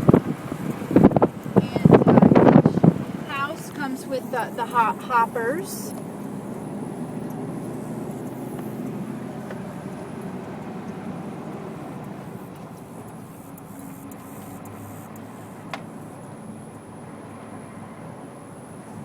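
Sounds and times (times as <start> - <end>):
vehicle interior rumble: 0.0 - 19.0.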